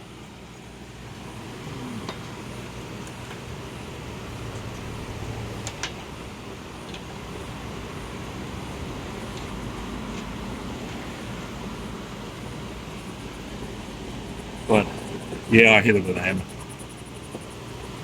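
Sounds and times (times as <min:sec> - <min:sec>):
low background rumble: 0:02.4 - 0:18.0.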